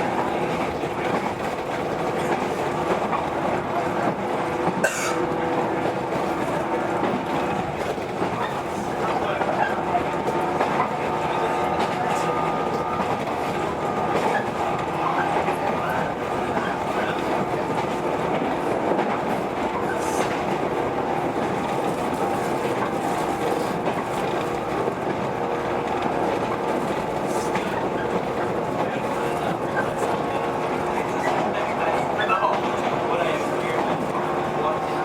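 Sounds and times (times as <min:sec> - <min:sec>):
train motor hum: 0:00.0 - 0:35.0
train wheels rumbling: 0:00.0 - 0:35.0.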